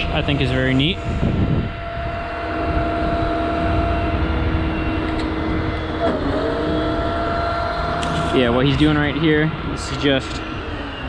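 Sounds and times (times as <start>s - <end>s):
truck engine running with whine: 0.0s - 11.0s.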